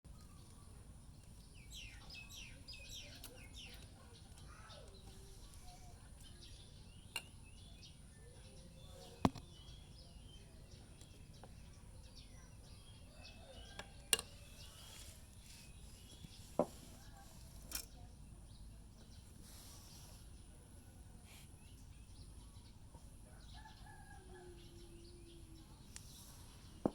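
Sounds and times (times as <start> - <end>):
faint bird chirps: 0.1 - 26.9.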